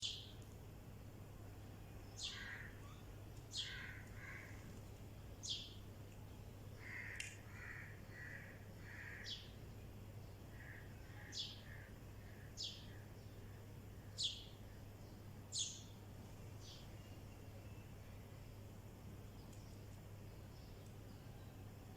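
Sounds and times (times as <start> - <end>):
birds chirping: 0.0 - 0.5, 2.0 - 21.9.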